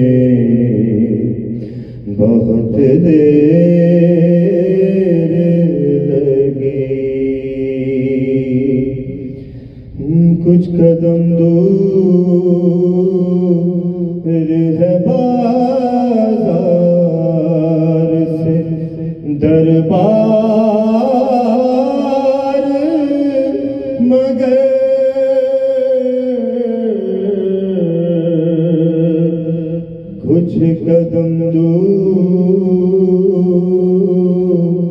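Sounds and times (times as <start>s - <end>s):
man chanting into a microphone: 0.0s - 34.9s.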